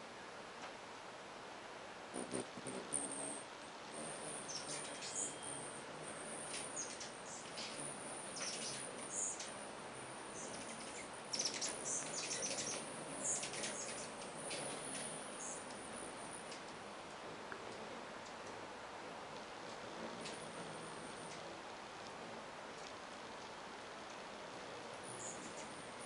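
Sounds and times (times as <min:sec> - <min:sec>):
hum of hummingbird wings: 0:00.0 - 0:26.0
hummingbirds chipping and squeaking: 0:02.2 - 0:23.6, 0:24.6 - 0:26.0.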